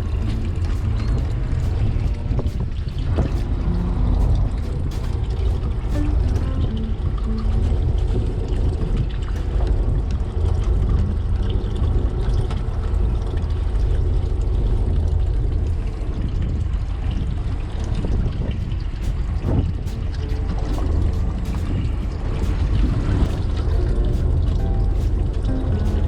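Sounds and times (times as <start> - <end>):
boat engine rumbling: 0.0 - 26.0
water noise: 0.0 - 26.0.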